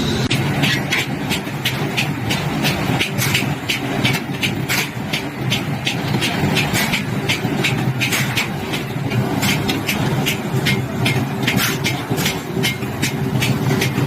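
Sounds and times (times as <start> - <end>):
metalworking machinery humming: 0.0 - 14.0.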